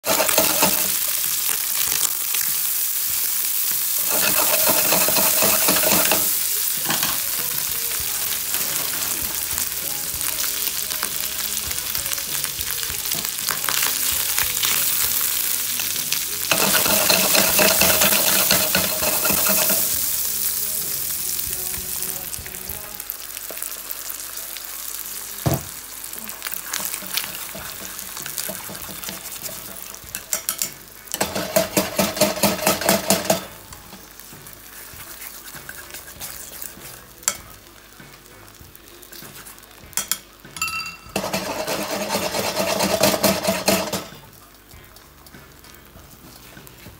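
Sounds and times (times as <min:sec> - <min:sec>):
food sizzling in a frying pan: 0:00.0 - 0:46.9.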